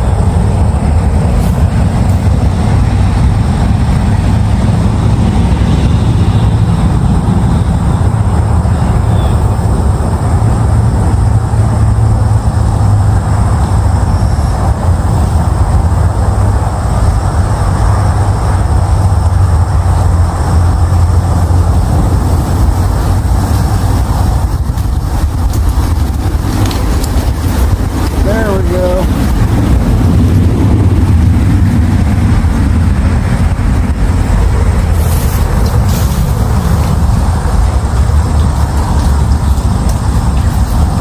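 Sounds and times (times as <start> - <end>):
water rushing through spillway: 0.0 - 41.0.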